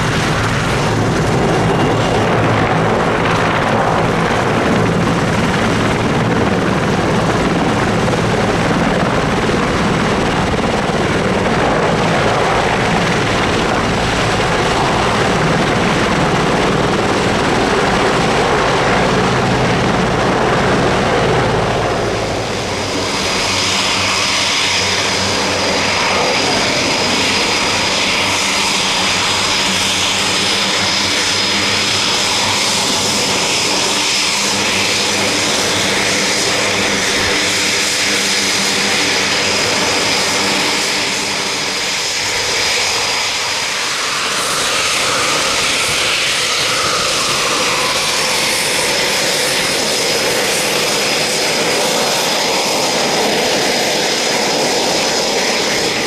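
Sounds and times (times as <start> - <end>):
helicopter rotor rumble: 0.0 - 56.0
jet engines whining and roaring: 0.0 - 56.0.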